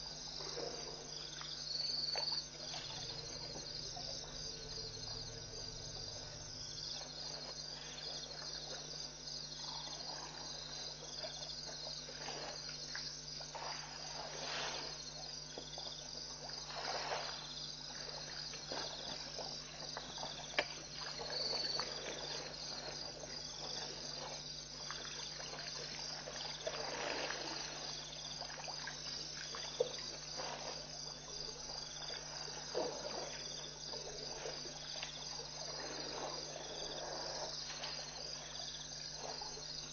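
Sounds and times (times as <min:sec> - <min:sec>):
crickets chirping: 0:00.0 - 0:39.9
water splashing and trickling: 0:00.0 - 0:39.9.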